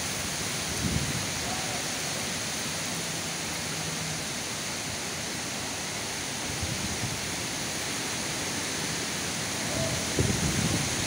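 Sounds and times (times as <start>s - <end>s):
heavy rain on wet paving: 0.0s - 11.0s.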